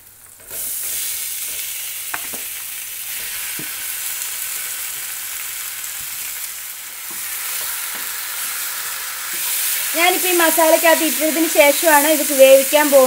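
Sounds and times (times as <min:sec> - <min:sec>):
food sizzling in hot pan: 0:00.0 - 0:13.0.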